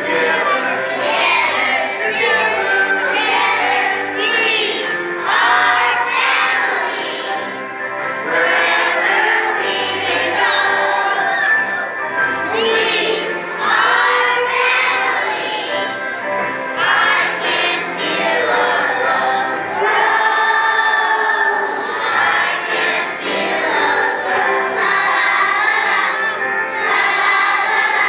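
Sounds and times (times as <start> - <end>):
children singing: 0.0 - 28.0
musical accompaniment: 0.0 - 28.0.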